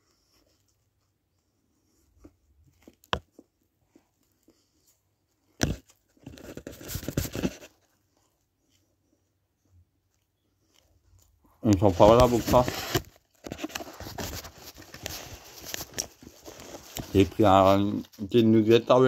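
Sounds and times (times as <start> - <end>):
crackly rustling: 0.0 - 19.0.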